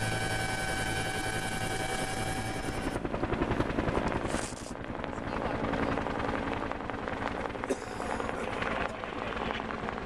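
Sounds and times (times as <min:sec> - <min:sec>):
helicopter rotor blades beating: 0:00.0 - 0:10.0
helicopter turbine whine in cabin: 0:00.0 - 0:10.0.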